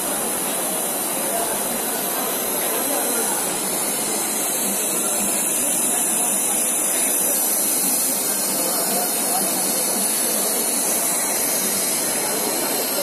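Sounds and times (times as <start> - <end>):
machine hiss and hum: 0.0 - 13.0.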